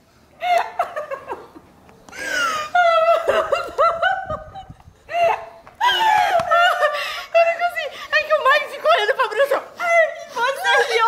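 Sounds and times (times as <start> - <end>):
young women laughing: 0.4 - 11.0.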